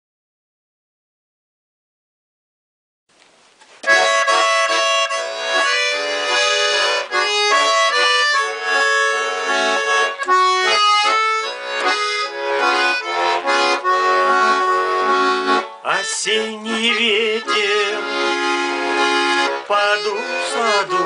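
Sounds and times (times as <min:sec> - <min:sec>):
button accordion melody: 0:03.8 - 0:21.0.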